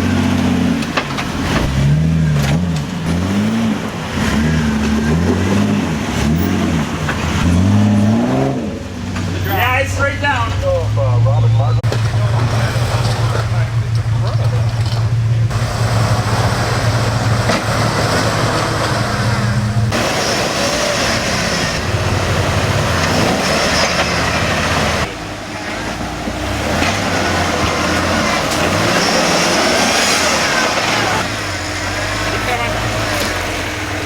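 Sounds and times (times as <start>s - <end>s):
off-road vehicle engine humming: 0.0s - 34.0s.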